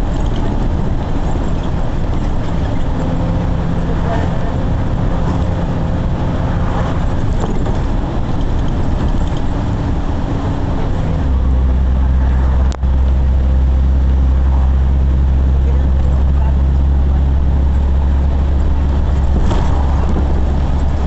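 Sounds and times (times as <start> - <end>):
motor engine humming: 0.0 - 21.0.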